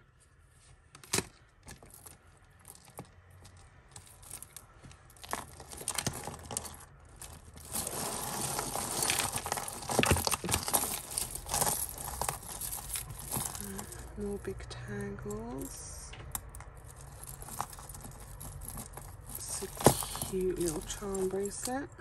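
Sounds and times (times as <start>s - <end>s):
rustling: 0.0s - 14.6s, 15.2s - 22.0s
jewellery beads and chains jangling: 1.7s - 22.0s.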